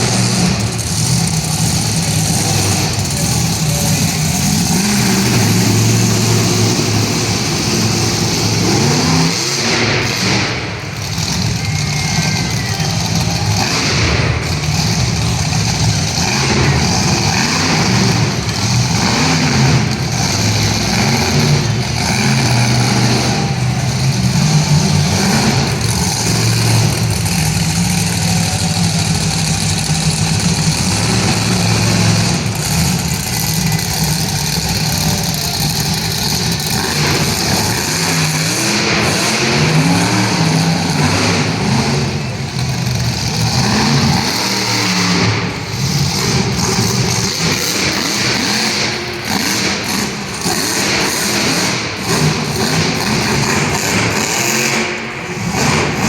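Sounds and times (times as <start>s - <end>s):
monster truck engine revving: 0.0s - 56.0s.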